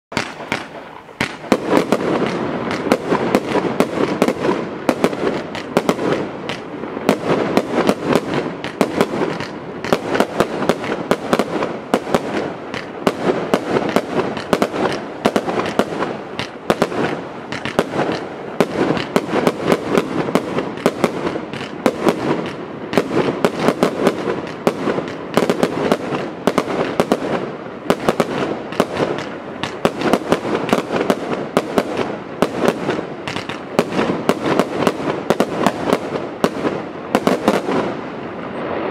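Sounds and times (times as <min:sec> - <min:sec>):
firework barrage launches and bursts: 0:00.1 - 0:38.9.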